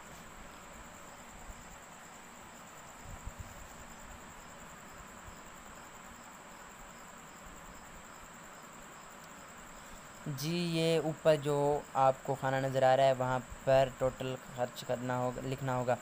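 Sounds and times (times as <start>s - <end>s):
background hiss: 0.0s - 16.0s
insect chirping trill: 0.0s - 16.0s.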